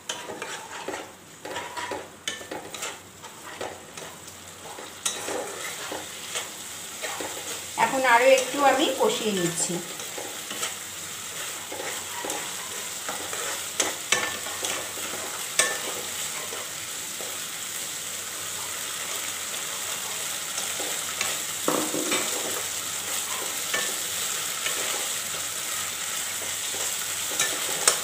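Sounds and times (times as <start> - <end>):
spatula scraping a pan: 0.0 - 7.7, 9.9 - 17.5, 18.6 - 28.0
paste sizzling in a wok: 0.0 - 28.0.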